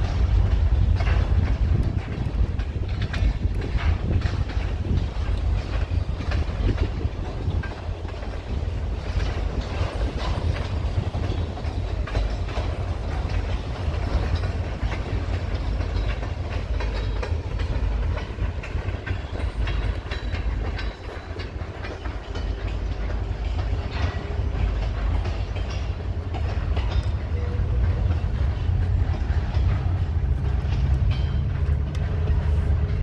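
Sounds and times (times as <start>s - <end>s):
freight train rumbling: 0.0s - 33.0s
train wheels clicking over rails: 0.0s - 33.0s.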